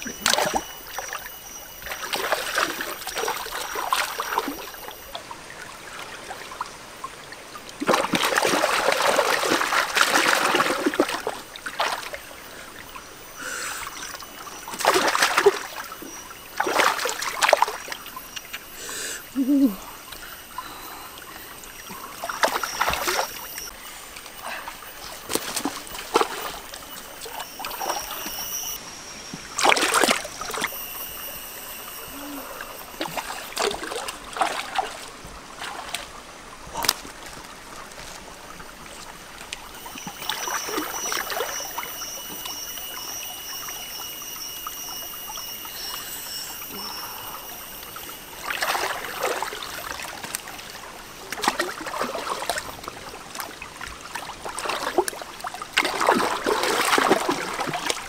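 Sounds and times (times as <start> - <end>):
water splashing and trickling: 0.0 - 58.0.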